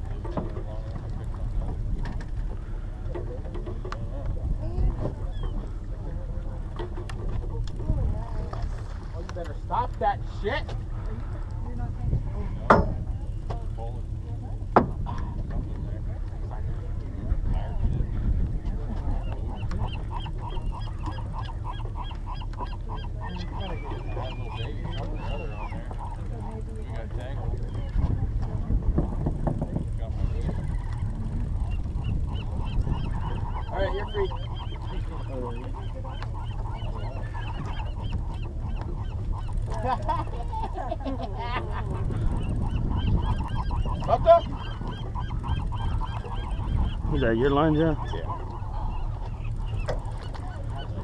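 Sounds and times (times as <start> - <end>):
boat engine drone: 0.0 - 51.0
seabirds calling: 0.0 - 51.0
steady low rumble: 0.0 - 51.0.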